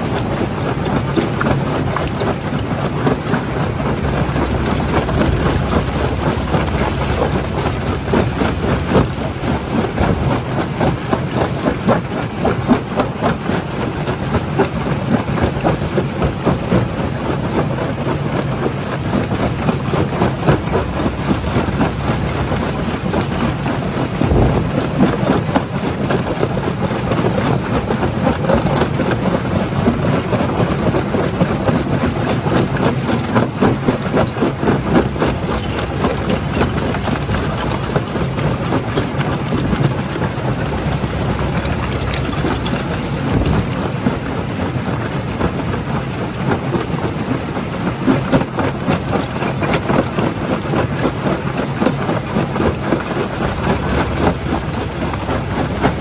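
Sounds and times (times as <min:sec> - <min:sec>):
crusher machine drone: 0:00.0 - 0:47.8, 0:48.4 - 0:56.0.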